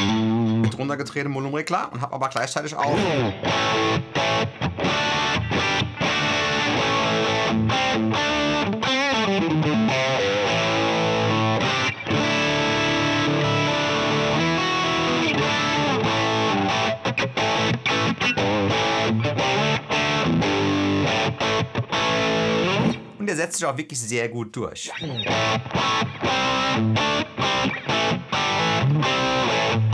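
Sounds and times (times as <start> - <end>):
overdriven electric guitar: 0.0 - 0.7, 2.9 - 23.2, 24.9 - 29.9.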